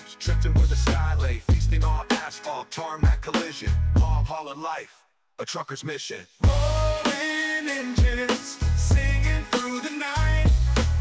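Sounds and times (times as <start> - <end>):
song with heavy bass and drums: 0.0 - 4.3, 6.4 - 11.0.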